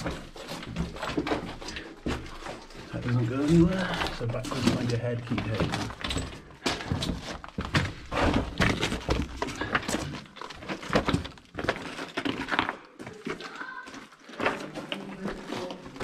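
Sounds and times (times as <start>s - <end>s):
footsteps and scrambling over rock: 0.0s - 16.0s.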